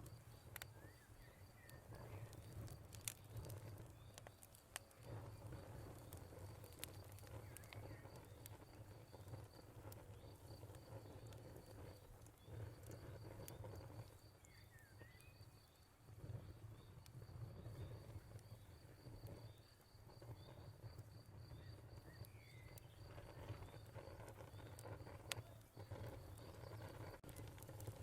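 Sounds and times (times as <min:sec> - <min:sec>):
cricket chirping: 0:00.0 - 0:28.0
fire crackling and popping: 0:00.0 - 0:28.0.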